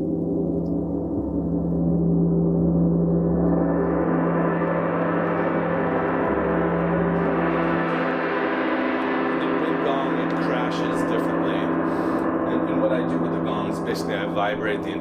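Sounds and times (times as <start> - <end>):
wind gong ringing: 1.4 - 15.0.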